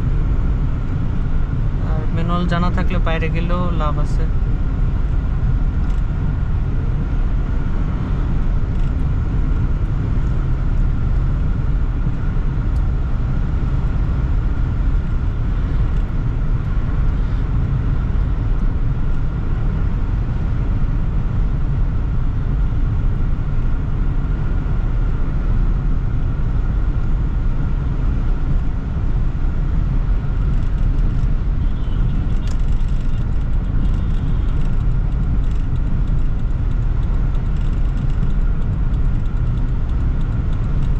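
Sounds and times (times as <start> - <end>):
car interior driving noise: 0.0 - 40.9.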